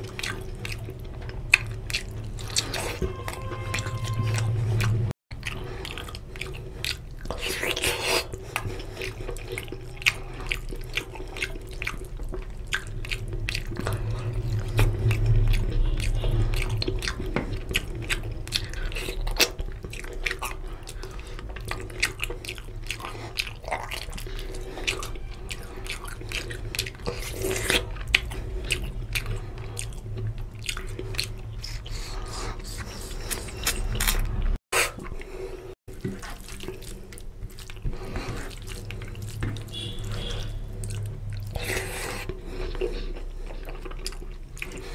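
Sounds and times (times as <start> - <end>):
chewing: 0.0 - 44.9.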